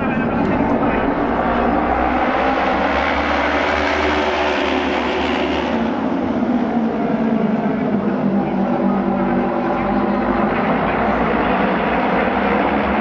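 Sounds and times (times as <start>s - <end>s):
racing motorcycles engines: 0.0s - 13.0s.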